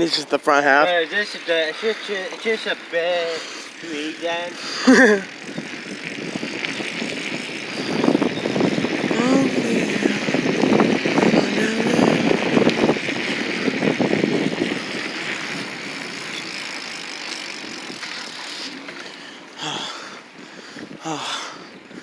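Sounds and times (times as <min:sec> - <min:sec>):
wind and tyre noise: 0:00.0 - 0:22.0
bicycle rattling and knocking: 0:00.7 - 0:20.0.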